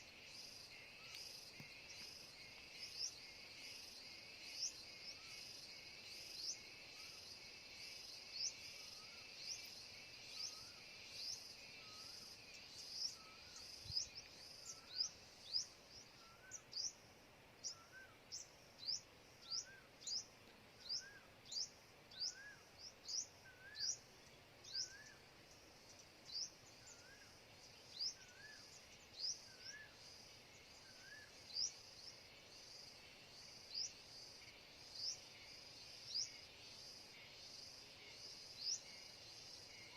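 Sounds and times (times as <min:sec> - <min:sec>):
faint insect hum: 0:00.0 - 0:39.9.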